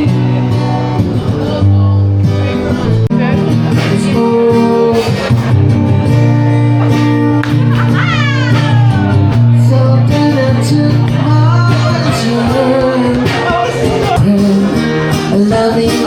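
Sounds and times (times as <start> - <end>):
man singing: 0.0 - 1.9, 2.5 - 6.2, 8.4 - 16.0
bass line: 0.0 - 15.8
guitar: 0.0 - 16.0.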